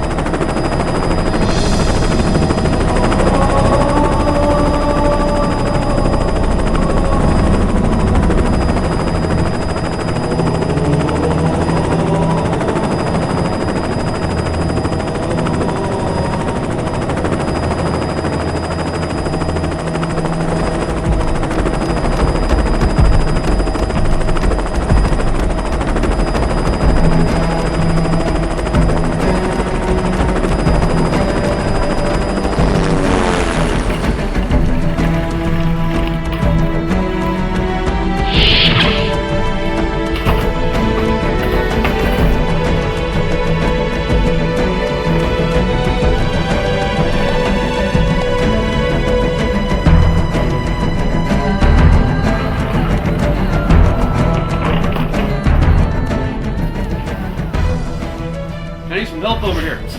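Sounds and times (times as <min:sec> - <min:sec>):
helicopter rotor and engine: 0:00.0 - 0:58.4.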